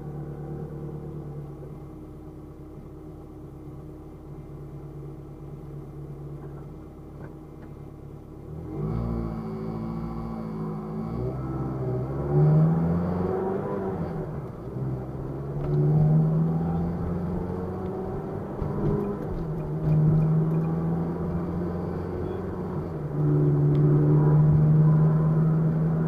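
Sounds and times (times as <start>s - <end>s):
car engine from inside cabin: 0.0s - 26.0s
road noise: 0.0s - 26.0s.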